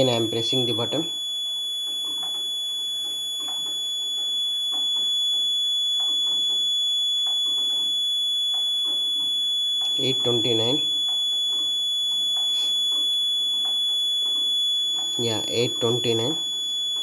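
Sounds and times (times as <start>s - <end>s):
high-pitched alarm buzzer: 0.0s - 17.0s.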